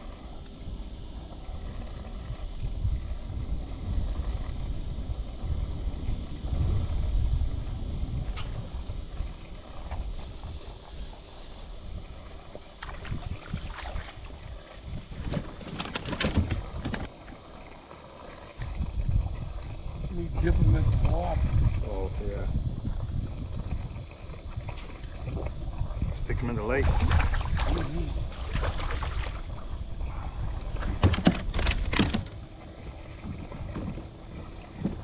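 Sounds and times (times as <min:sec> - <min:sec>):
wind buffeting microphone: 0:00.0 - 0:17.5, 0:18.1 - 0:35.0.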